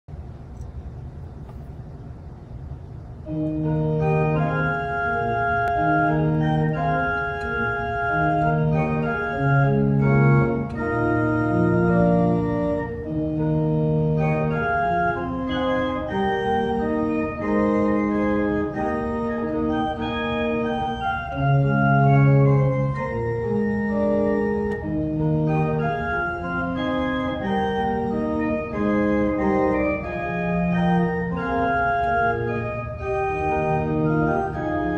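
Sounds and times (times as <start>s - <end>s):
organ playing slow chords: 0.9s - 34.9s.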